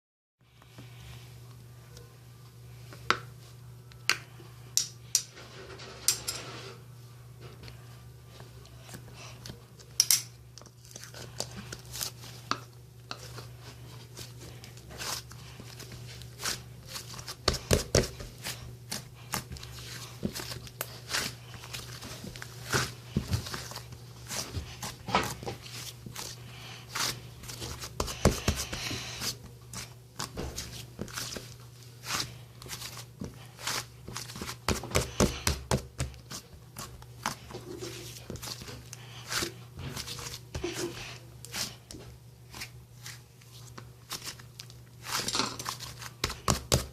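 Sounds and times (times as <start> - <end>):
steady low hum: 0.4 - 46.9.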